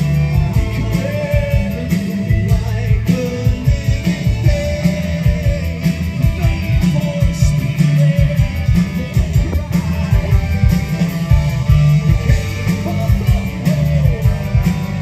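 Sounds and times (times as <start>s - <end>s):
heavy bass: 0.0s - 15.0s
rock band playing: 0.0s - 15.0s.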